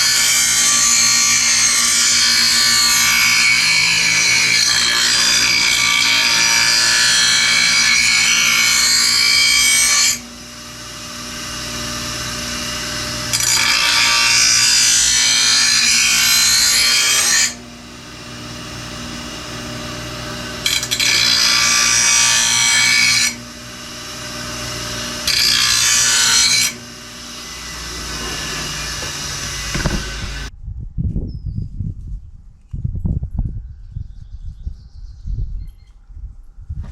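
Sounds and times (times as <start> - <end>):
grinder motor running: 0.0 - 30.5
harsh blade grinding: 0.0 - 30.5.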